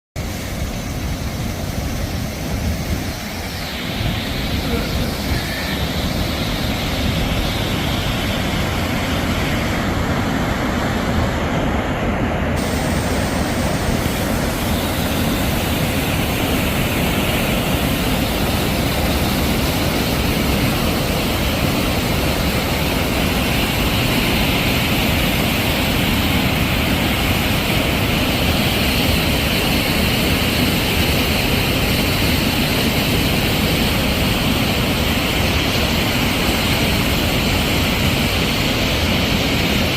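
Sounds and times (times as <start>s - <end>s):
waterfall rushing: 0.2s - 39.9s.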